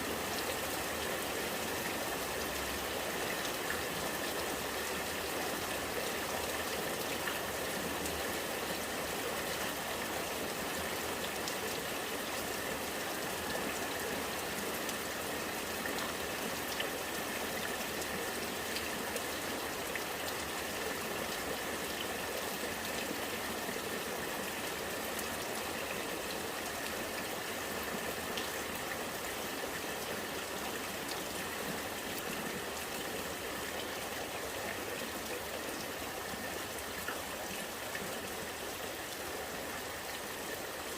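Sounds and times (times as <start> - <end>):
rainwater running and gurgling: 0.0 - 40.9.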